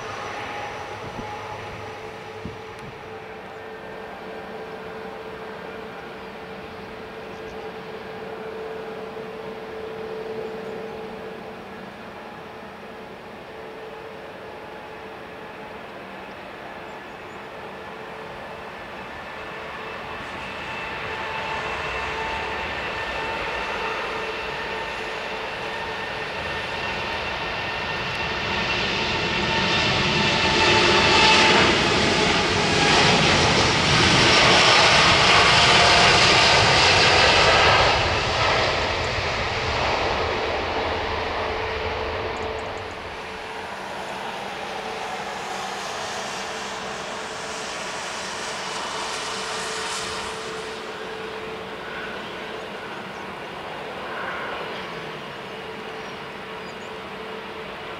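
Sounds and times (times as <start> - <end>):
jet engines of taxiing airliner: 0.0 - 57.9.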